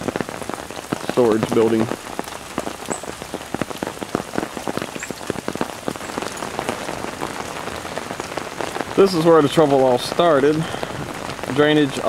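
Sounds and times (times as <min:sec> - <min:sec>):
close raindrop hits ticking: 0:00.0 - 0:12.0
heavy rain falling: 0:00.0 - 0:12.0.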